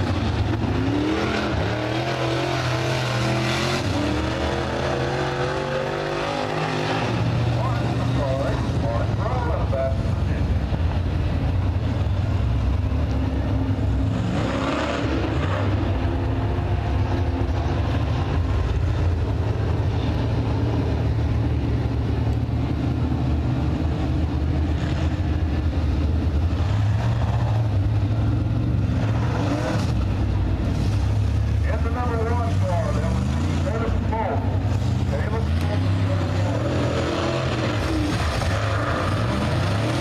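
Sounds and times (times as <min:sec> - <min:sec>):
race car engines droning: 0:00.0 - 0:40.0.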